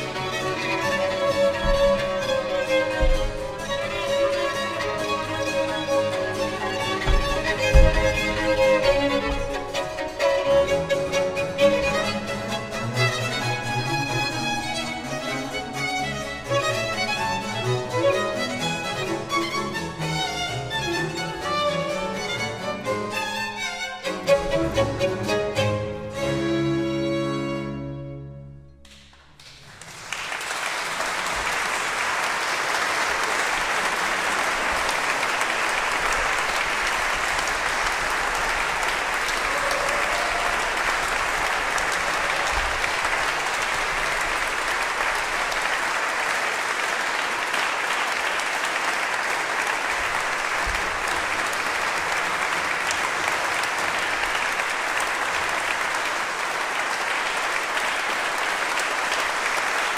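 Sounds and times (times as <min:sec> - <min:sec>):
audience applauding: 0:00.0 - 0:22.6, 0:28.9 - 0:59.9.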